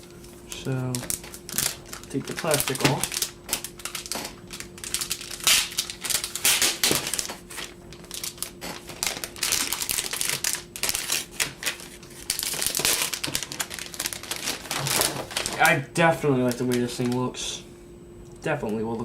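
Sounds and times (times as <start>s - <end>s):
plastic wrapping crinkling: 0.0s - 15.8s, 16.4s - 17.3s.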